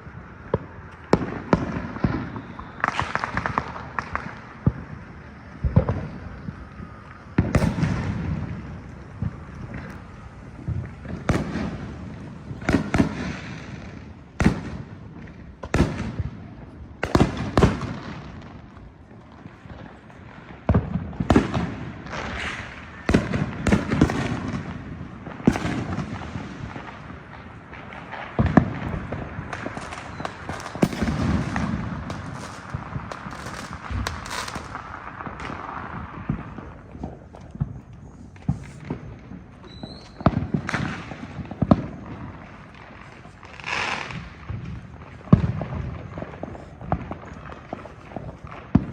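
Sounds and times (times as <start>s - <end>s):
firecrackers crackling pops: 0.0s - 48.9s
fireworks bangs: 0.0s - 48.9s.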